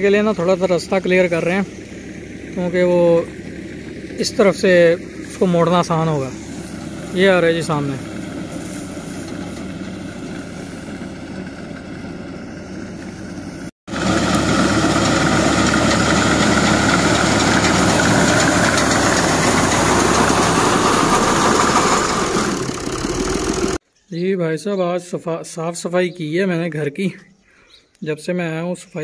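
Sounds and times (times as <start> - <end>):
tractor engine running: 0.0 - 23.8.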